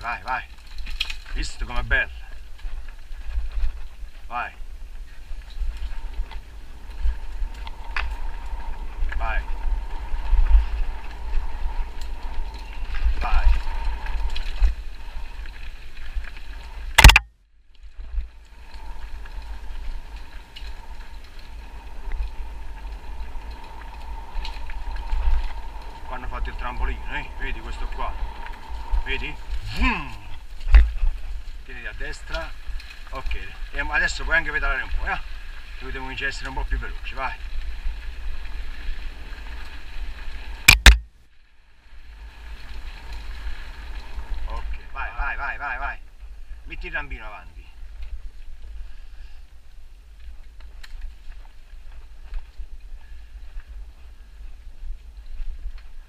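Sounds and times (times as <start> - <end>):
bike wheels on dirt trail: 0.0 - 56.0
wind rumble on microphone: 0.0 - 56.0.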